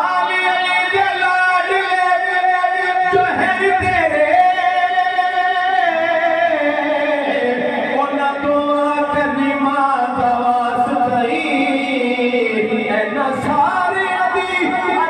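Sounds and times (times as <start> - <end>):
man singing lead: 0.0 - 15.0
men singing along: 0.0 - 15.0.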